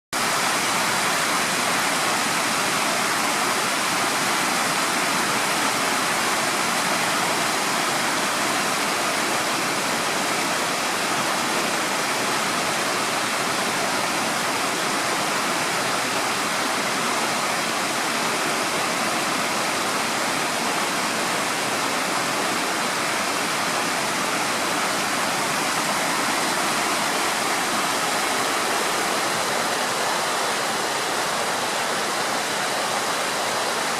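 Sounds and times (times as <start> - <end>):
river rushing over weir: 0.2 - 33.9.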